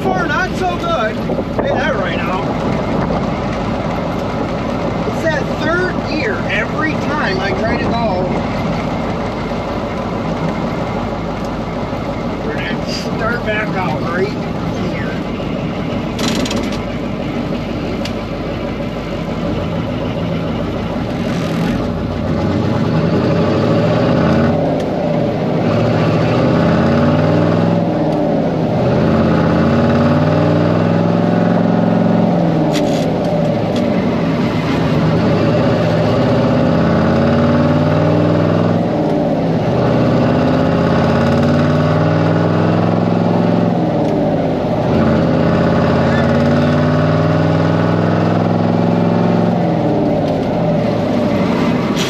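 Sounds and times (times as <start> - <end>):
diesel truck engine revving: 0.0 - 52.0.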